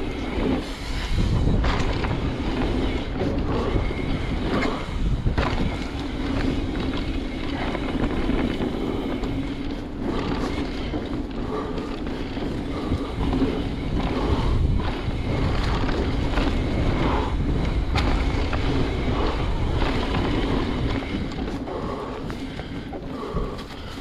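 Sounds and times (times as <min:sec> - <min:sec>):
bike tyres rolling on dirt: 0:00.0 - 0:24.0
wind rushing over microphone: 0:00.0 - 0:24.0.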